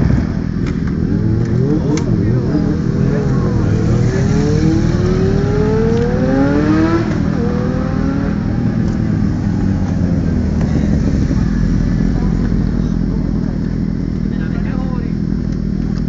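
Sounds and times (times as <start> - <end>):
motorcycle accelerating away: 0.0 - 16.0
motorcycle engines idling: 0.0 - 16.0.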